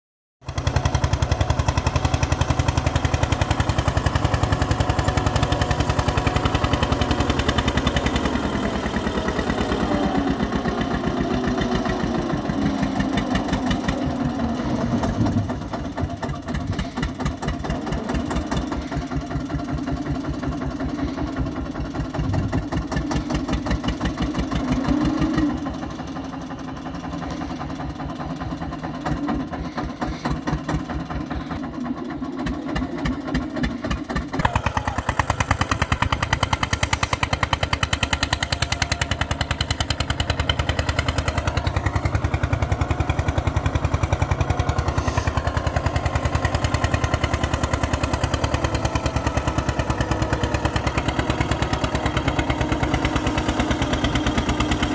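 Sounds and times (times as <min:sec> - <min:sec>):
tractor diesel engine thudding: 0:00.5 - 0:54.9.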